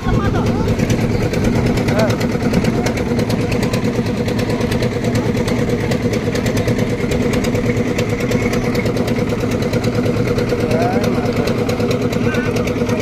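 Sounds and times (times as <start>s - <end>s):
concrete mixer engine running: 0.0s - 13.0s
regular ticking clatter: 0.0s - 13.0s.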